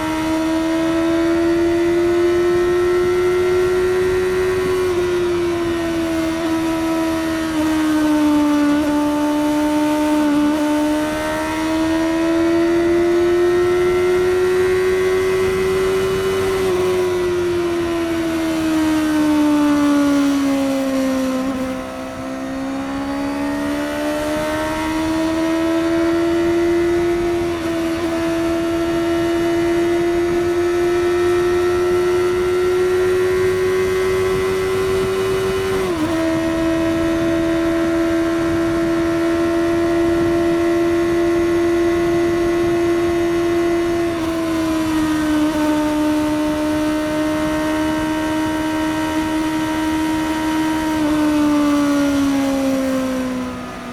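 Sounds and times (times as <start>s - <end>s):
motorcycle engine at highway speed: 0.0s - 53.9s.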